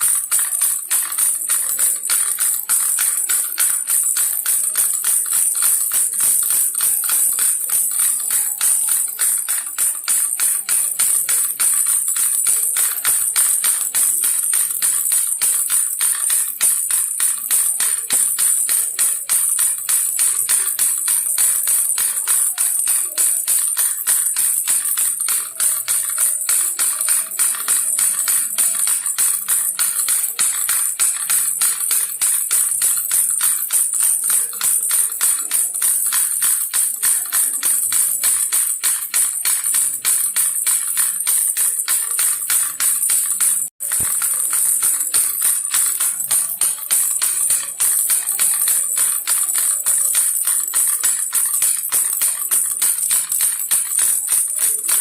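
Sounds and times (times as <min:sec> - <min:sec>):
baby rattle shaken: 0:00.0 - 0:55.0.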